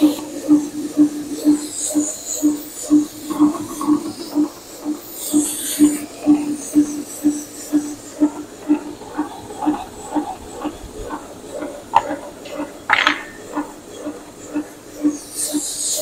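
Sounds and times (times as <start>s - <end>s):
model locomotive chuffing: 0.0s - 16.0s.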